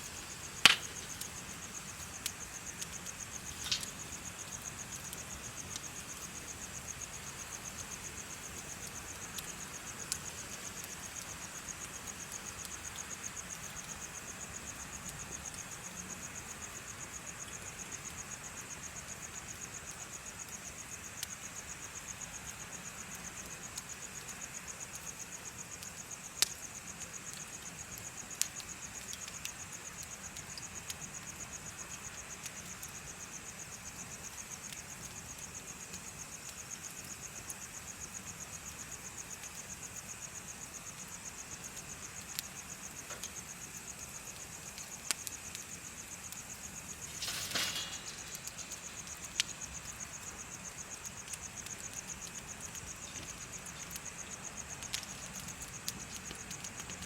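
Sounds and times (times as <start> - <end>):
bonfire crackling pops: 0.0 - 57.0
crickets chirping: 0.0 - 57.0.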